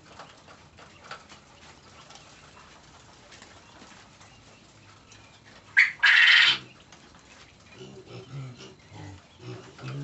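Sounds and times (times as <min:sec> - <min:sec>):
low steady background noise: 0:00.0 - 0:10.0.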